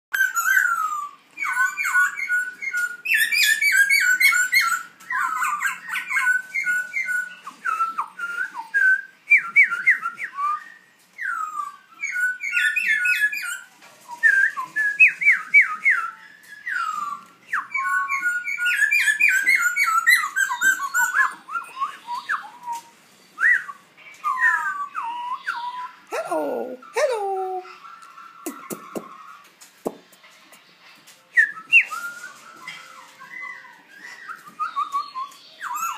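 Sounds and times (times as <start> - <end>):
bird whistling song: 0.1 - 26.1, 31.3 - 35.9.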